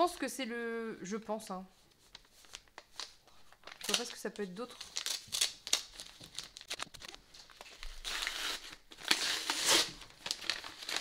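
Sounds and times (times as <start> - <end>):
paper wrapping tearing and crumpling: 2.1 - 11.0.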